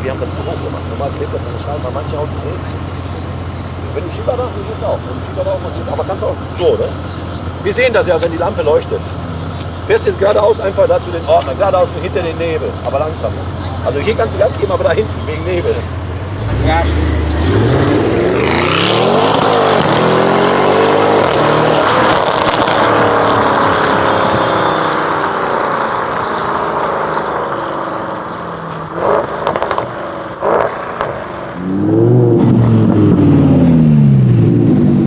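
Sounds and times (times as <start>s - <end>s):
car engine accelerating hard: 0.0s - 35.0s
car passing loudly: 0.0s - 35.0s
exhaust cracks: 0.0s - 35.0s.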